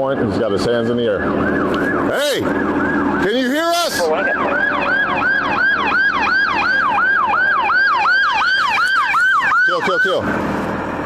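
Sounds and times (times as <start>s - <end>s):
siren yelping: 0.0s - 10.3s.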